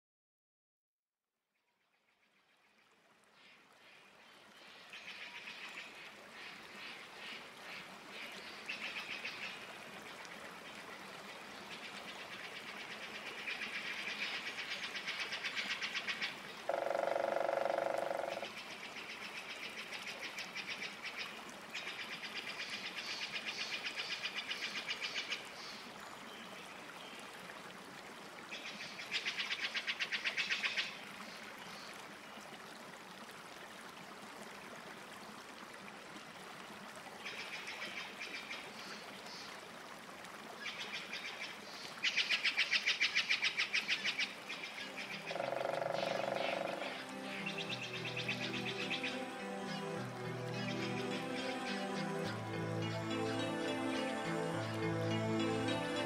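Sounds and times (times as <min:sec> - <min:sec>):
small waterfall rushing: 0:02.9 - 0:56.0.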